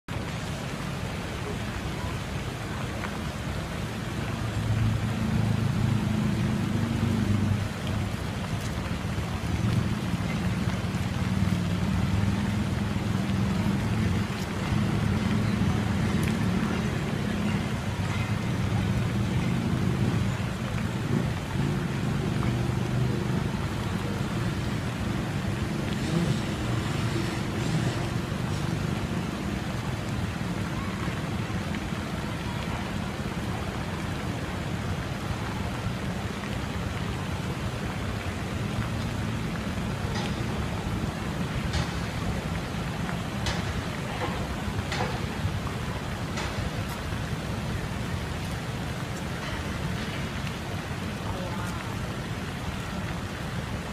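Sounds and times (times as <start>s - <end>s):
fountain water splashing: 0.1s - 53.9s.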